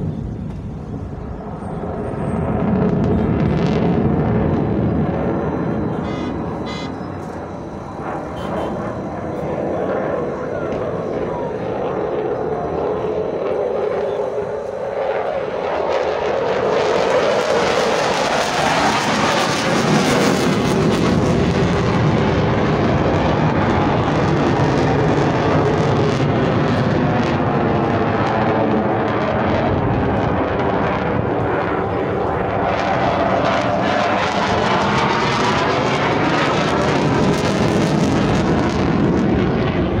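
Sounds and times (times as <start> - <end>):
jet aircraft flying over: 0.0 - 40.0.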